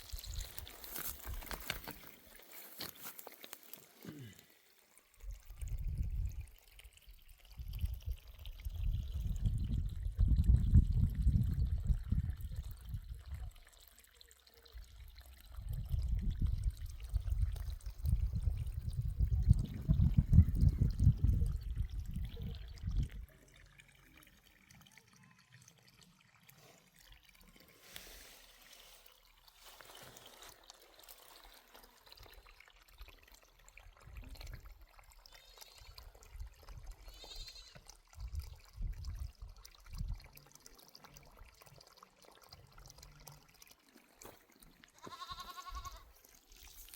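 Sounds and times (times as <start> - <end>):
water pouring and gurgling: 0.0 - 46.9.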